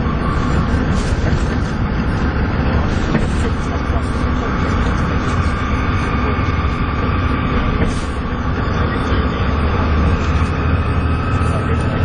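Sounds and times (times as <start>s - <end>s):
bus diesel engine droning: 0.0s - 12.0s
high turbo whine: 0.0s - 12.0s.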